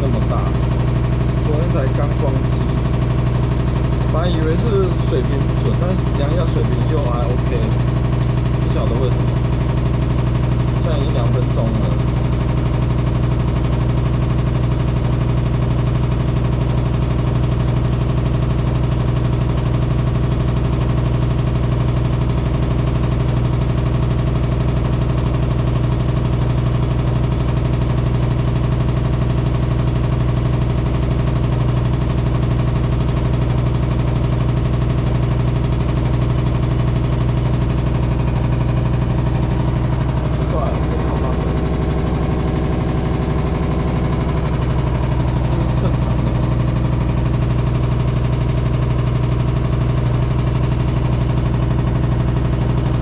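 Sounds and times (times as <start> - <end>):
washing machine spinning: 0.0 - 53.0.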